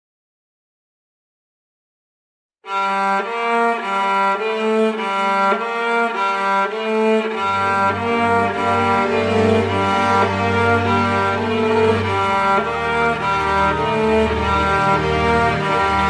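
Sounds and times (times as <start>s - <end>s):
cello-led string music: 2.7s - 16.0s.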